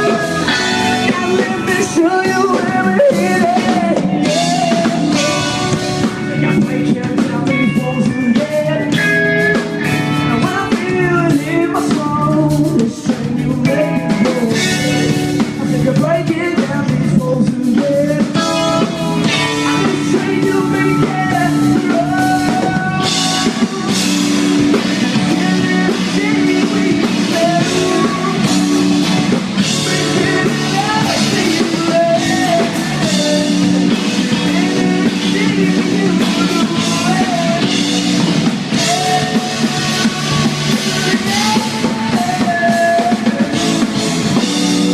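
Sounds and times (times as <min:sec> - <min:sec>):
drum kit: 0:00.0 - 0:44.9
electric guitar: 0:00.0 - 0:44.9
live rock band playing: 0:00.0 - 0:44.9.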